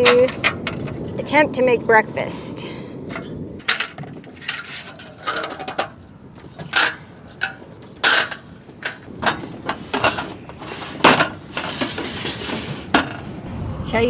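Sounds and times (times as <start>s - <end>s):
cooking gear clattering: 0.0s - 1.4s, 3.0s - 13.4s.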